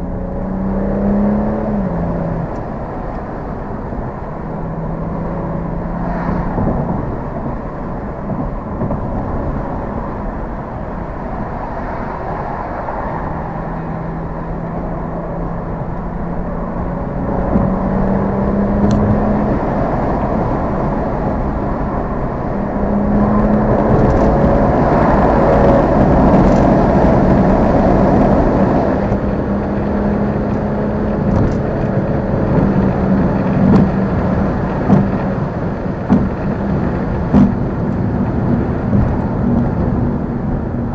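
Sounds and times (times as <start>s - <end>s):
car engine accelerating: 0.0s - 40.9s
road noise: 0.0s - 40.9s.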